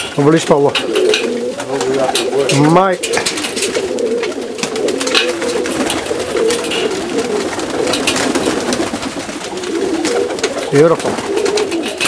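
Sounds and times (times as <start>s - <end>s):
pigeons cooing: 0.0s - 12.0s
sharp clicks and scratches: 0.0s - 12.0s.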